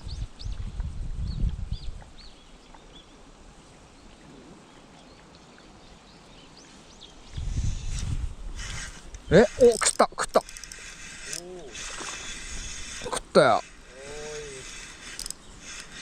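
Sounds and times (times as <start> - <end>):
small birds chirping: 1.3 - 16.0.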